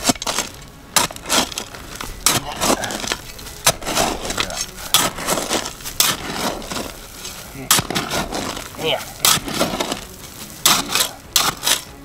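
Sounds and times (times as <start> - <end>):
shovel crunching into cinders: 0.0 - 12.0.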